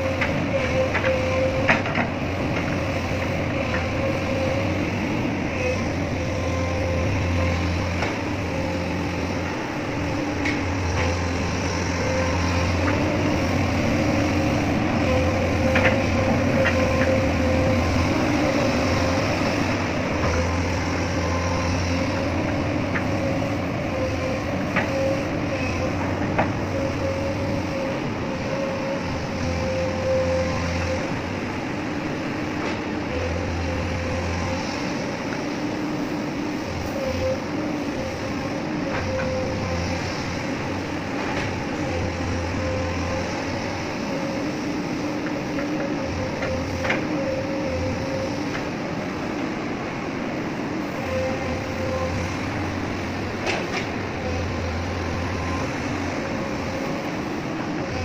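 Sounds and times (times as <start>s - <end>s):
excavator whine: 0.0s - 58.0s.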